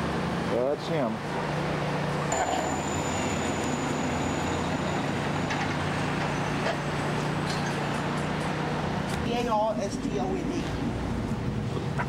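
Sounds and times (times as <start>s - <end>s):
large vehicle engine hum: 0.0s - 12.0s
street traffic noise: 0.0s - 12.0s.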